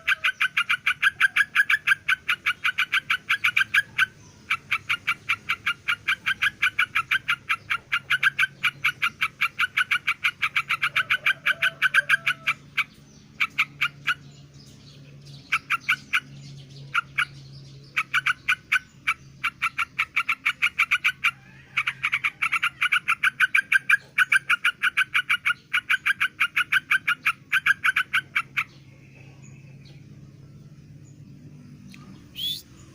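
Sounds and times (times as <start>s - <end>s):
bird calling sharp notes: 0.0s - 14.4s, 15.4s - 29.8s, 31.9s - 32.9s.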